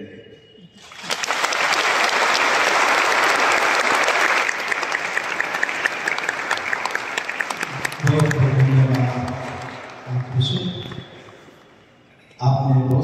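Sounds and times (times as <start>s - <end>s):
congregation applauding: 0.8s - 11.8s.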